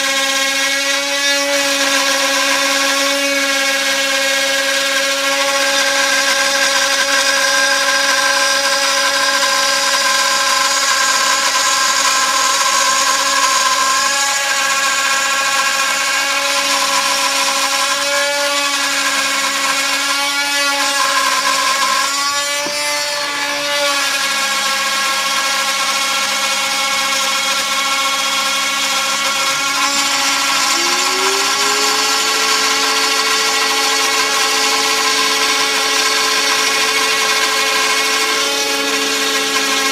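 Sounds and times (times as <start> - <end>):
cnc router spindle whine: 0.0 - 39.9.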